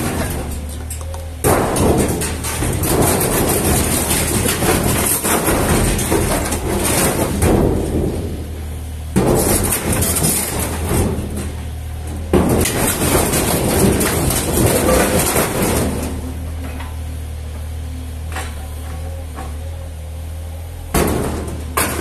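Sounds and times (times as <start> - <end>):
rough clattering: 0.0 - 17.0, 20.9 - 22.0
diesel engine running under load: 0.0 - 22.0.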